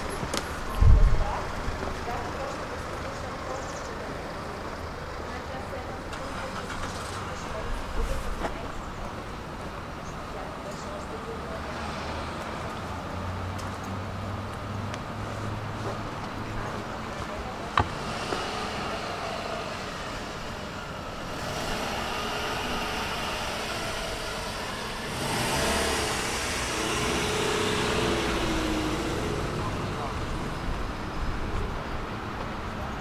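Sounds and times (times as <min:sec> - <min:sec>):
car engines: 0:00.0 - 0:33.0
passing vehicles: 0:00.0 - 0:33.0.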